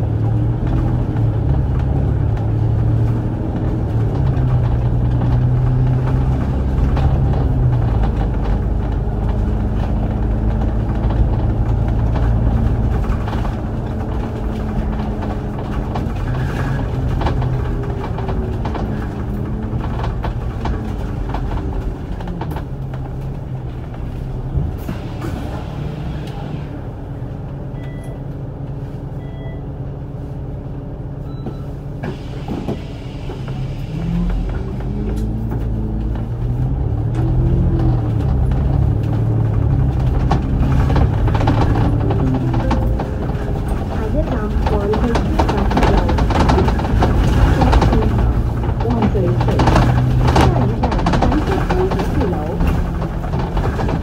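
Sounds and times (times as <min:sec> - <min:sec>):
bus engine humming: 0:00.0 - 0:54.0.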